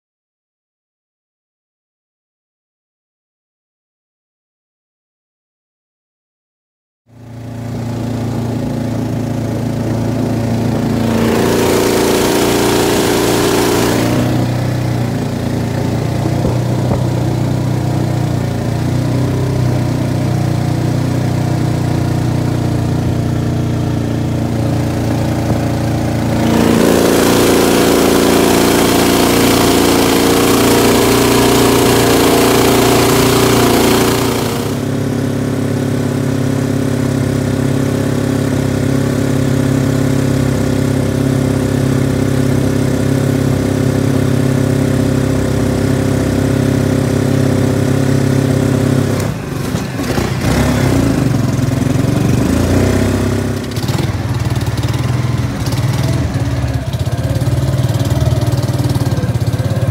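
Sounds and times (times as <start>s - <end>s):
boat engine running: 7.2s - 59.9s.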